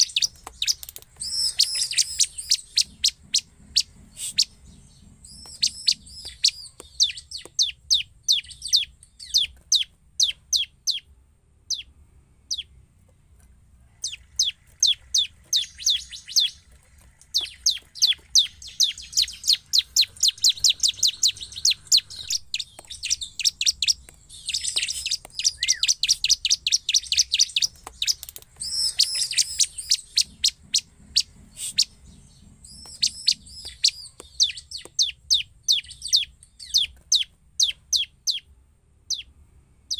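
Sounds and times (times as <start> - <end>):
bird chirping and trilling: 0.0 - 12.8, 13.9 - 39.9.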